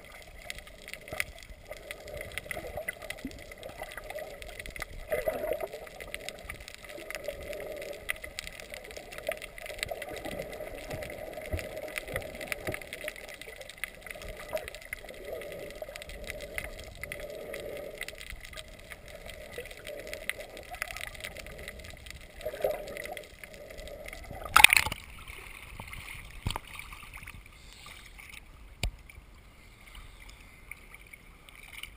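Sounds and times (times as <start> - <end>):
underwater clicks: 0.0 - 29.2
muffled underwater water wash: 0.0 - 31.9.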